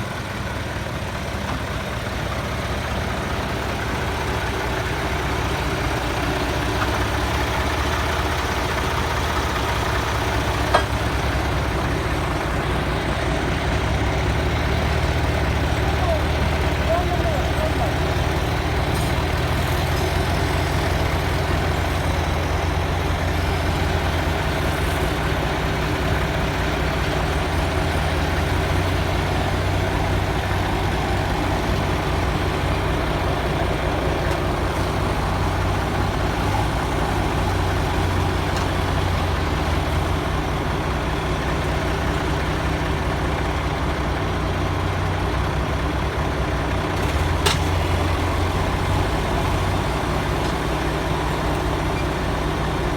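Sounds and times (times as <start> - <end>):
diesel truck engine running: 0.0 - 52.9.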